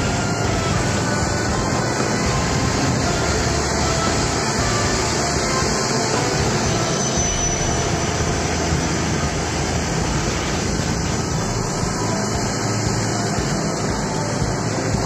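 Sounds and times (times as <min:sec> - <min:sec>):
vehicle engine drone: 0:00.0 - 0:15.0
wind and tyre hiss: 0:00.0 - 0:15.0.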